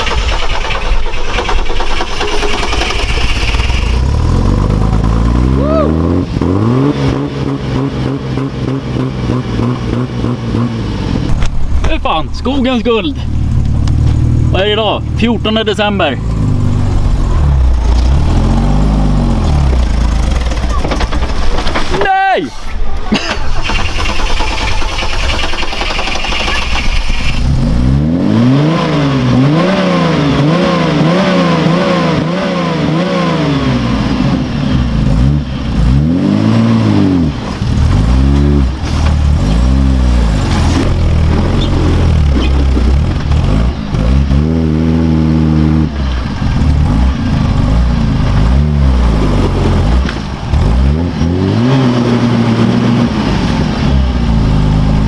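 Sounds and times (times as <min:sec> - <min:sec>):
truck engine revving: 0:00.0 - 0:22.0, 0:23.1 - 0:55.0.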